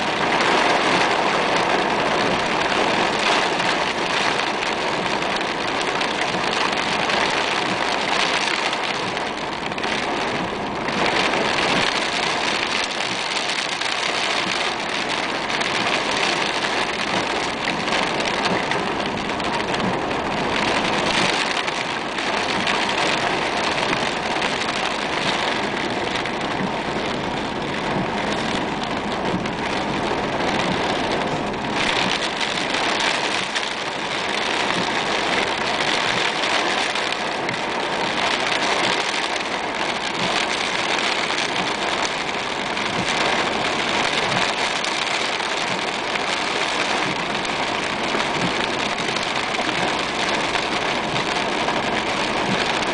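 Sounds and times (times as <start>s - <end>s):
heavy rain on car roof: 0.0s - 52.9s.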